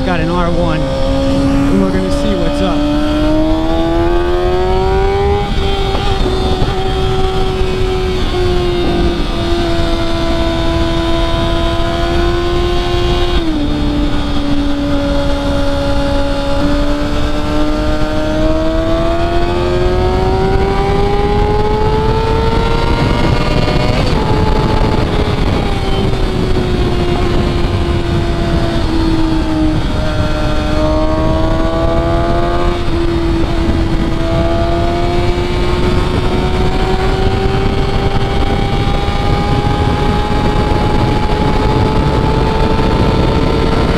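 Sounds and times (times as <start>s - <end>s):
motorcycle engine at high revs: 0.0s - 43.9s
wind rush: 0.0s - 43.9s.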